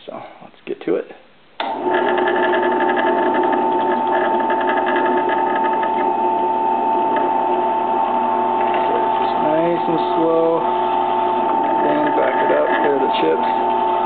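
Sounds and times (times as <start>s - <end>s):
drill press motor whine: 1.6s - 14.0s.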